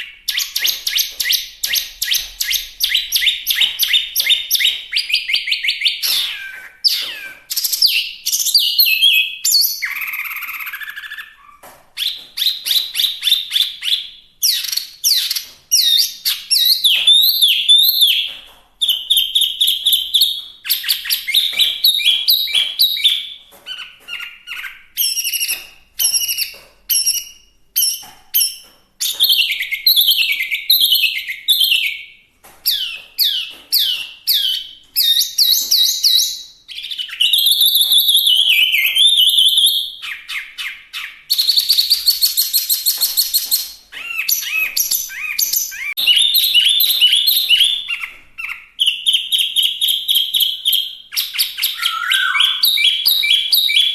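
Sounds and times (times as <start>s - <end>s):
songbird singing whistled phrases: 0.0s - 53.9s.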